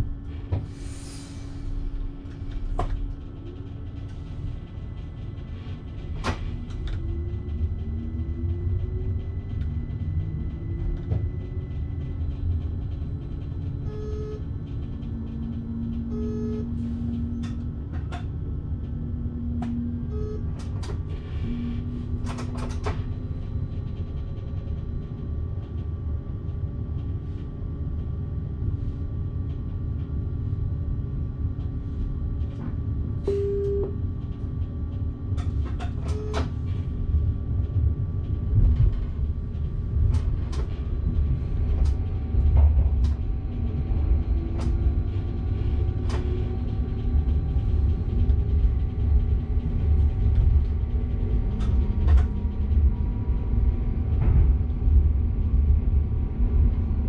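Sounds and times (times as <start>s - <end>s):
train running low rumble: 0.0s - 57.0s.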